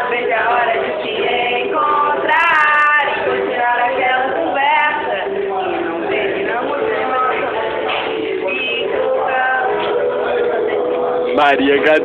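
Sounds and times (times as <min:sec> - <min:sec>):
woman singing: 0:00.0 - 0:11.0
acoustic guitar: 0:00.0 - 0:12.0.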